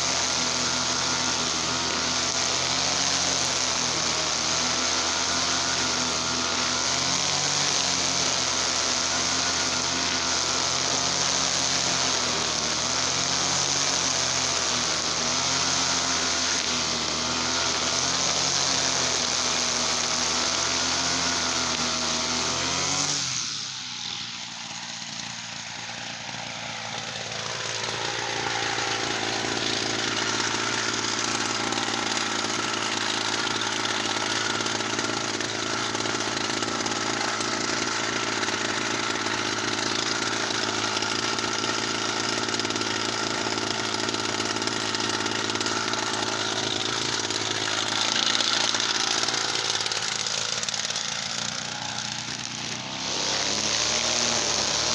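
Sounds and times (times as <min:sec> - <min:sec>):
brush cutter engine running: 0:00.0 - 0:54.9.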